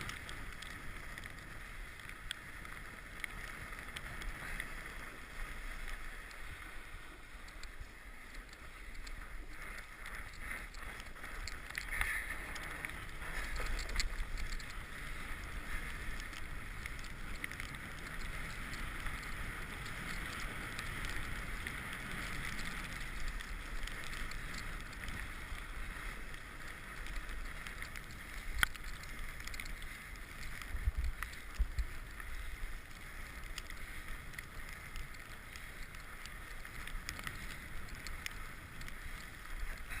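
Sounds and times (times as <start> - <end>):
tyre and wind noise: 0.0 - 40.0
bike clicks and knocks: 7.4 - 40.0.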